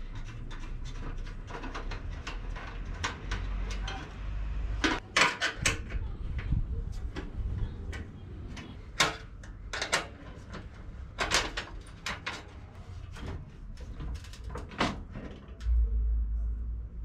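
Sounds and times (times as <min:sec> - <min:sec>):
metal clicks and knocks: 0:00.0 - 0:15.8.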